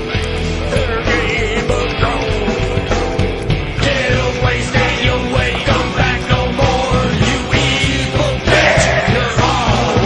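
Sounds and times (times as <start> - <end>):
loud rock music: 0.0 - 10.0
fast drum beat: 0.1 - 10.0.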